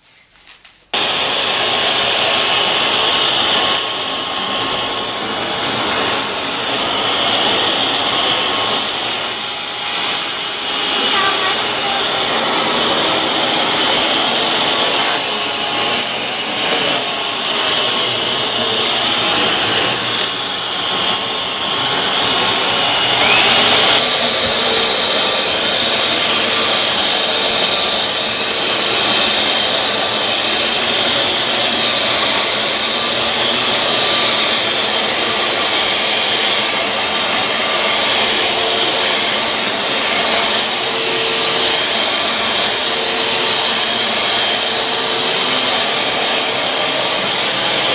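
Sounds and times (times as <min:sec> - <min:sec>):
upright vacuum cleaner running: 0:00.9 - 0:47.9.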